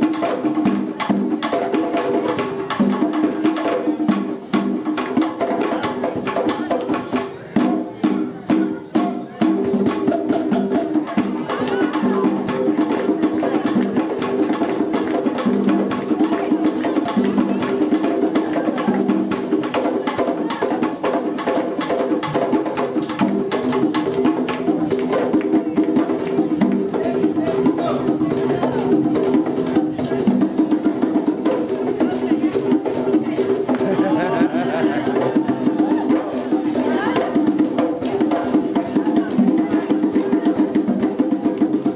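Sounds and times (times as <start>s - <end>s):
hand drums fast rhythm: 0.0s - 41.9s.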